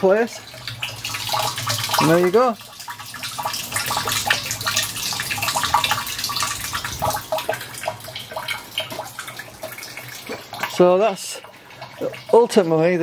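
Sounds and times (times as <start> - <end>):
water stream splashing into water: 0.0 - 13.0.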